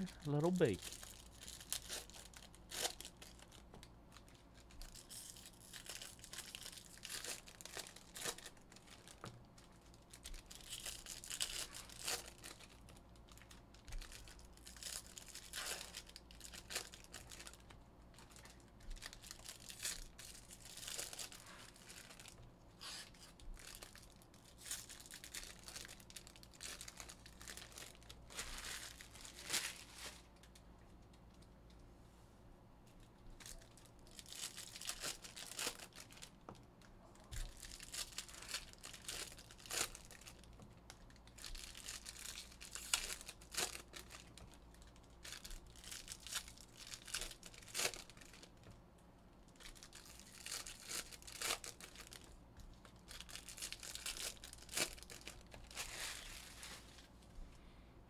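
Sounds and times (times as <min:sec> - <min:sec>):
foil wrappers crinkling and tearing: 0:00.0 - 0:30.6, 0:33.4 - 0:36.4, 0:37.3 - 0:48.7, 0:49.5 - 0:57.1.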